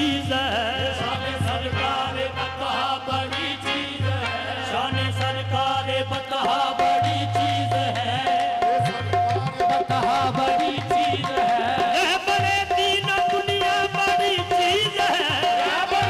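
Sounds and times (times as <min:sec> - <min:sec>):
rhythmic percussion: 0:00.0 - 0:16.0.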